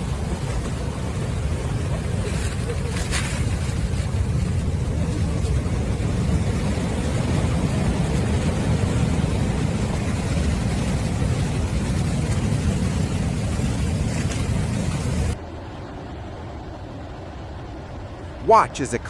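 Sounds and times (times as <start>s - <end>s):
water and ice rushing: 0.0s - 19.0s.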